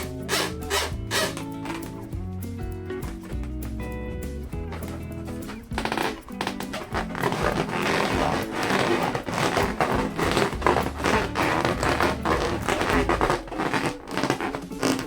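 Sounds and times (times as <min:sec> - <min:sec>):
hands rubbing balloons: 0:00.0 - 0:02.2, 0:04.5 - 0:15.0
music: 0:00.0 - 0:15.0.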